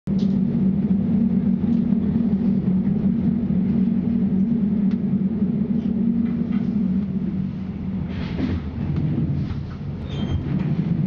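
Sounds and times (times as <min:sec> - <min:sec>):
train running noise: 0:00.1 - 0:11.0.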